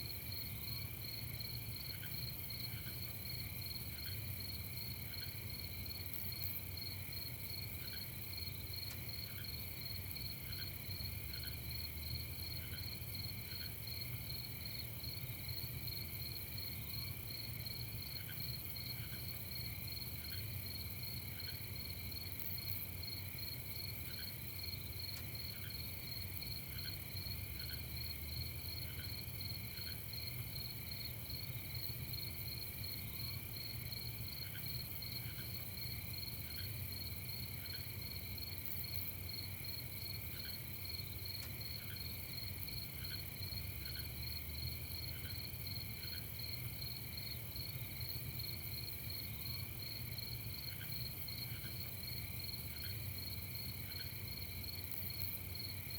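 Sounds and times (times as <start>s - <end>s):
crickets trilling: 0.1s - 55.9s.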